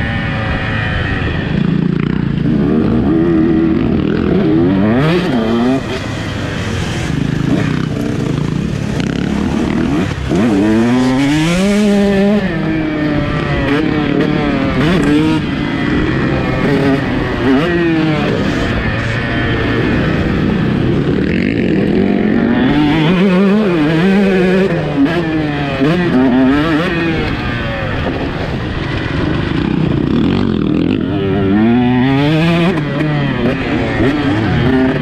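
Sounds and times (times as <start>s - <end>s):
motocross bike engine revving: 0.0s - 35.0s.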